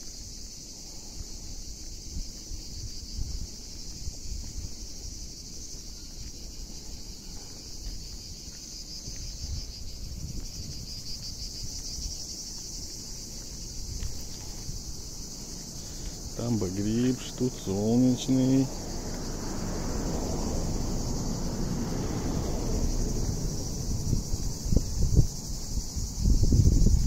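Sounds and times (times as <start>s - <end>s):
insects chirring: 0.0s - 27.0s
wind rumble on microphone: 1.0s - 16.4s, 18.5s - 27.0s.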